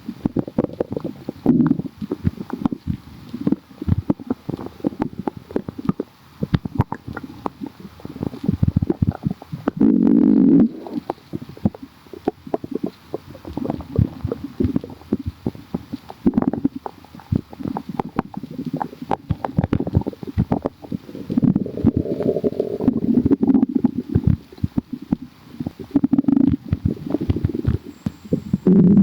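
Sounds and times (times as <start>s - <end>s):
stomach gurgling and growling: 0.0s - 29.0s.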